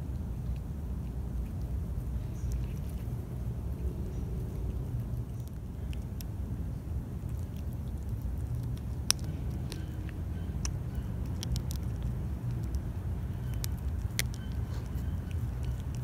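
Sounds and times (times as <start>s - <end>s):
cat chewing and crunching bone: 0.0s - 16.0s
low rumble: 0.0s - 16.0s.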